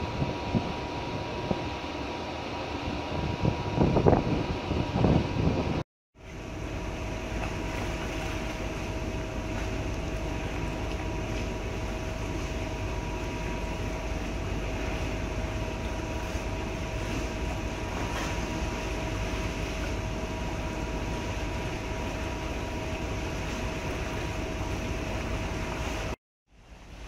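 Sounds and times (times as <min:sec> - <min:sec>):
constant hum tones: 0:00.0 - 0:27.0
ship machinery drone: 0:00.0 - 0:27.0.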